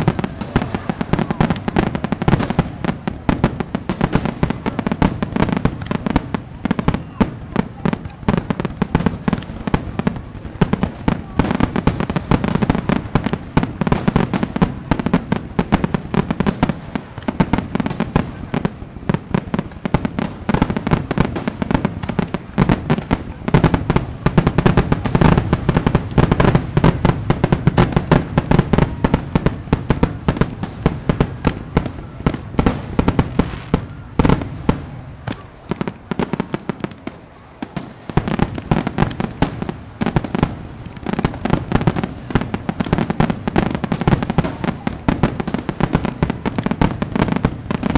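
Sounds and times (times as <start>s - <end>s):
fireworks bangs: 0.0s - 47.9s
fireworks crackling and popping: 0.0s - 47.9s.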